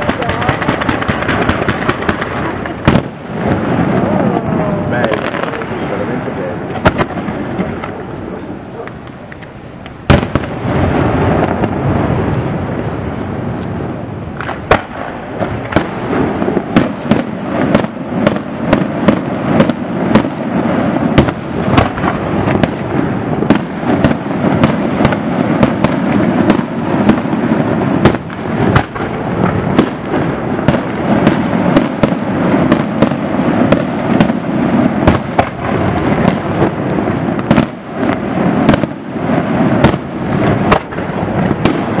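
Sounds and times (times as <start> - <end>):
firework bangs: 0.0 - 42.0
rumble of bursting shells: 0.0 - 42.0.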